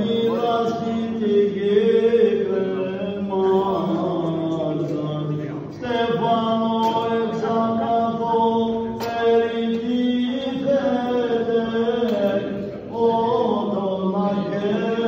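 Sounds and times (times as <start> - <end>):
chant sung in long held notes: 0.0 - 15.0
steady vocal drone: 0.0 - 15.0.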